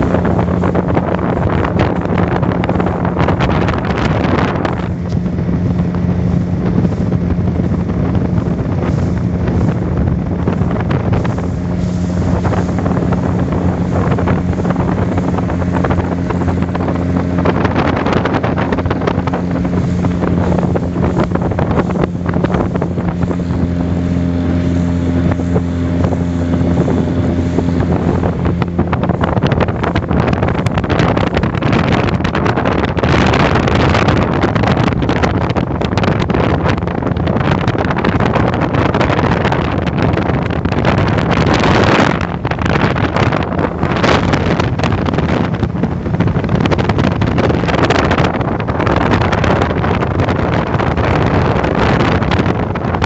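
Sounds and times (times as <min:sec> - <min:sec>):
speedboat engine humming: 0:00.0 - 0:53.0
wind buffeting microphone: 0:00.0 - 0:53.0.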